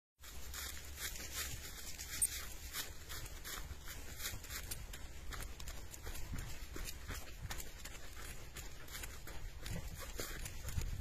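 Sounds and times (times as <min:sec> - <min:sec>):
footsteps crunching dry leaves: 0:00.2 - 0:11.0.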